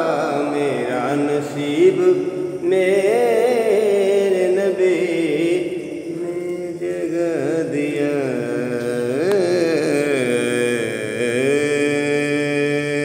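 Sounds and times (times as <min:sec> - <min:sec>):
man singing long held notes: 0:00.0 - 0:13.0.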